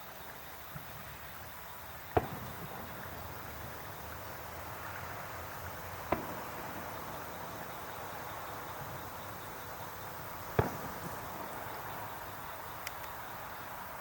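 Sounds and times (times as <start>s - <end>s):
firework shell bursts: 2.0s - 13.6s.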